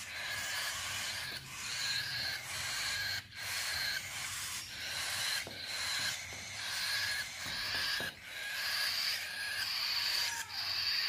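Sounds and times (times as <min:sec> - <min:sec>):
cockatiel chick hissing begging calls: 0:00.0 - 0:11.0.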